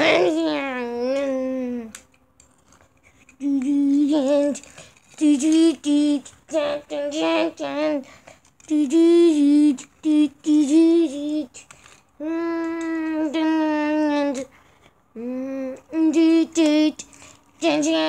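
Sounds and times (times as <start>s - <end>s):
high voice singing unaccompanied: 0.0s - 1.9s, 3.4s - 11.6s, 12.2s - 14.5s, 15.2s - 18.0s.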